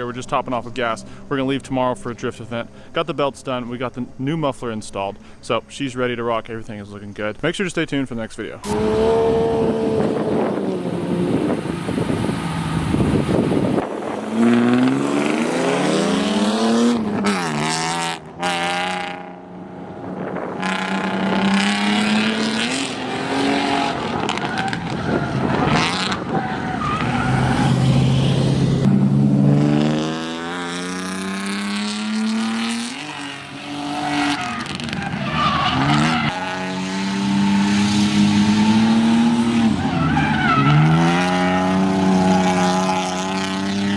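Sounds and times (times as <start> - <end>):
car engine revving hard: 8.6 - 43.9.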